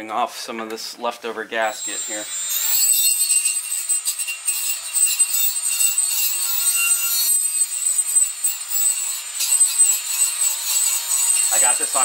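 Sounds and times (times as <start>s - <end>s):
bristle disc scratching metal: 1.6s - 12.0s
power tool whining: 1.7s - 12.0s.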